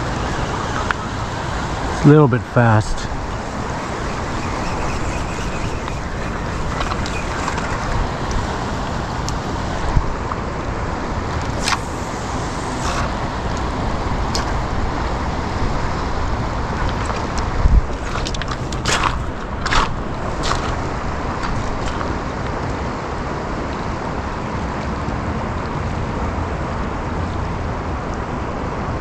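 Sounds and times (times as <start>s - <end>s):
river water rushing: 0.0s - 25.3s.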